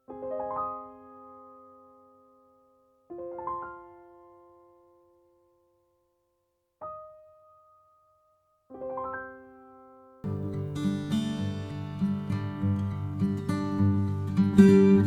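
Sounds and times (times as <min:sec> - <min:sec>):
slow piano chords: 0:00.1 - 0:05.8, 0:06.8 - 0:15.0.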